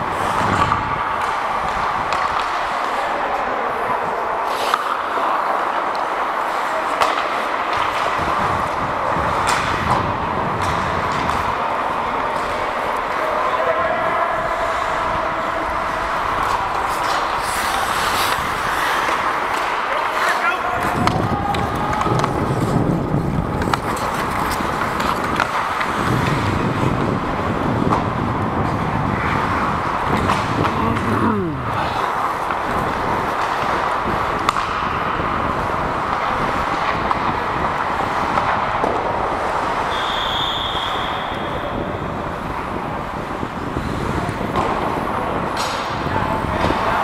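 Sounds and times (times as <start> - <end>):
ice skates scraping on ice: 0.0 - 47.0.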